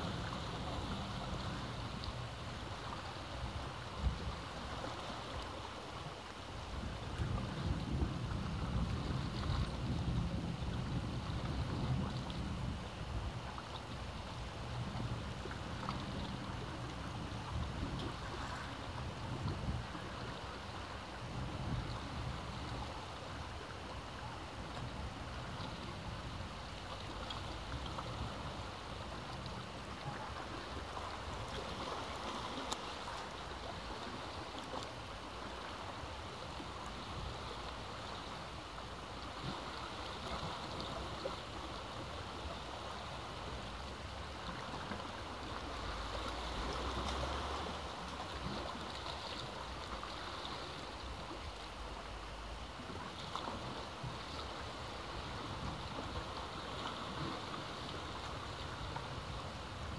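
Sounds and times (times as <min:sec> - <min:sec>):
waves washing against rocks: 0:00.0 - 0:59.9.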